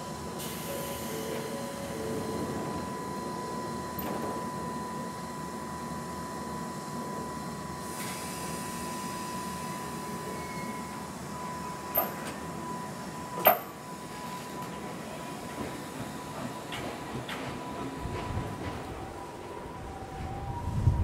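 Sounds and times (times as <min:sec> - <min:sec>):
electric train pulling away: 0:00.2 - 0:21.0.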